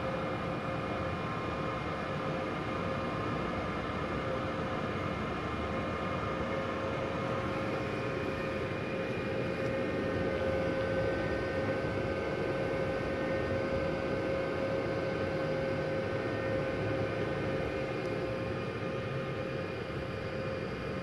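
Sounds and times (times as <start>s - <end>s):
welder cooling fan humming: 0.0s - 21.0s.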